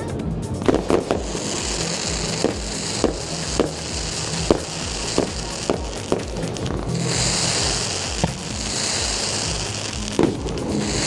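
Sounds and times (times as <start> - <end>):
steady background hiss: 0.0 - 11.0
fireworks exploding: 0.6 - 11.0.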